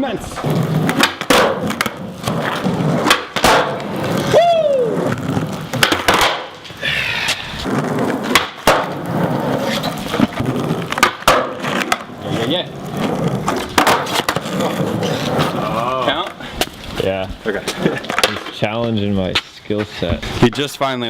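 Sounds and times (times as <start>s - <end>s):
skateboard wheels rumbling on concrete: 0.0s - 21.0s
skateboard clacks: 0.4s - 6.7s, 7.6s - 16.8s, 17.4s - 19.9s.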